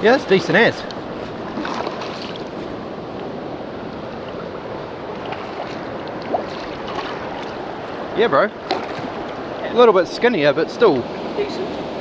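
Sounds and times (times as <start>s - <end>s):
stream water flowing over rocks: 0.0s - 12.0s.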